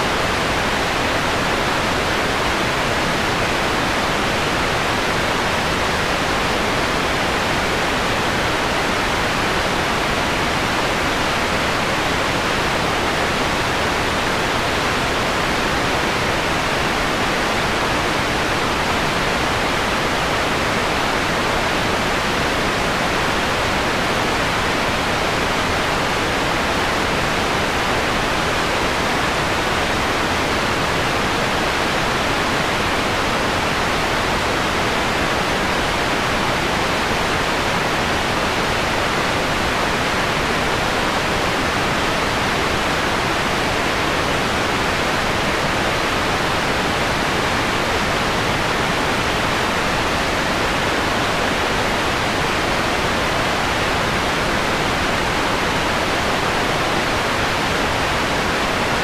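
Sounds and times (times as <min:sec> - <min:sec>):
softened white noise hiss: 0:00.0 - 0:59.0.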